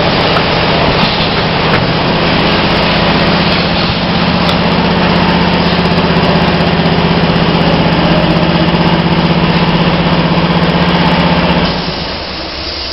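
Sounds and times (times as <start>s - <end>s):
machine humming with fast flutter: 0.0s - 12.8s.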